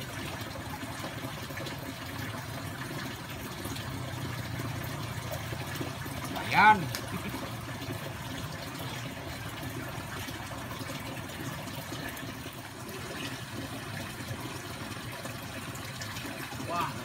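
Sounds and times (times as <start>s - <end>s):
running water trickling: 0.0s - 17.0s.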